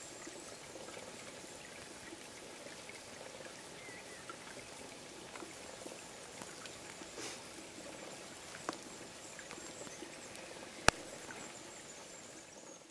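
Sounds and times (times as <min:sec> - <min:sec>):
drops ticking and dripping: 0:00.0 - 0:12.9
steady rain: 0:00.0 - 0:12.9.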